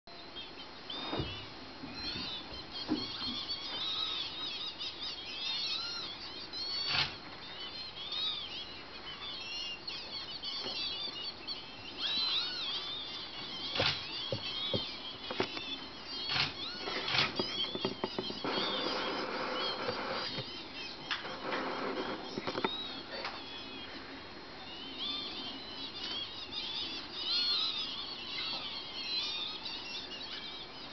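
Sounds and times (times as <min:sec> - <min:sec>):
small birds chirping: 0:00.1 - 0:30.9.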